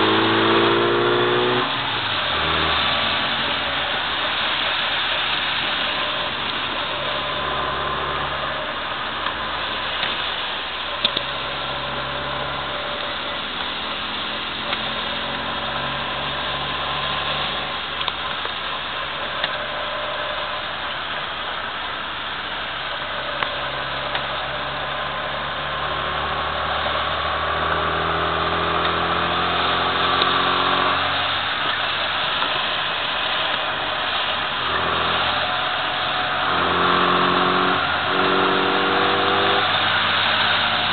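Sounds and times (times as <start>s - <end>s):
car engine under load: 0.0s - 40.9s
tyres hissing on wet road: 0.0s - 40.9s.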